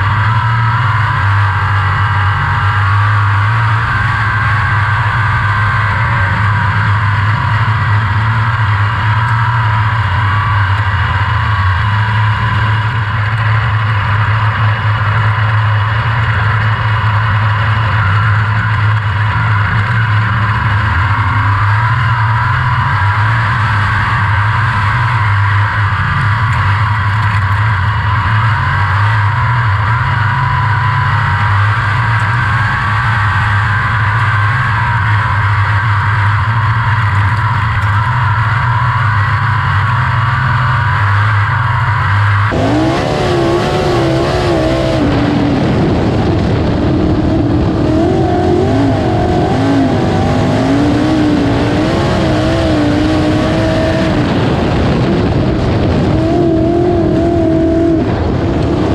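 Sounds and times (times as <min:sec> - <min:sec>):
racing car engine drone: 0:00.0 - 0:58.9.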